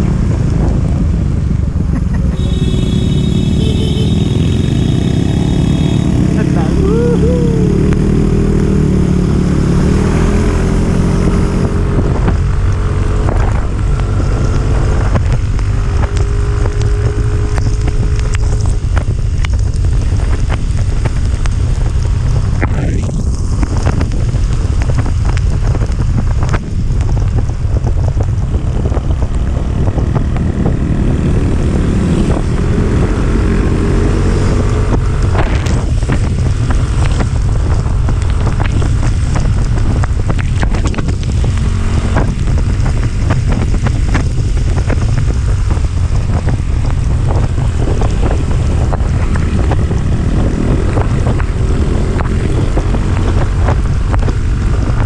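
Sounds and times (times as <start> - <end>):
wind buffeting microphone: 0.0 - 2.4, 5.0 - 55.0
motorcycle engine running: 0.0 - 55.0.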